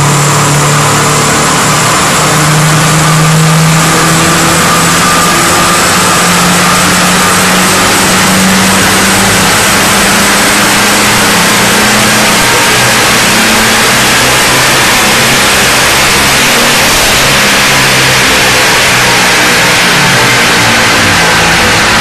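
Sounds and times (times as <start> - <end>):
car engine running on dynamometer: 0.0 - 22.0.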